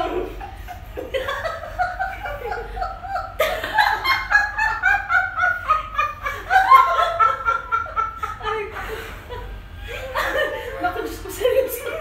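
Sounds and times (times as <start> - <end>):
women laughing: 0.0 - 12.0.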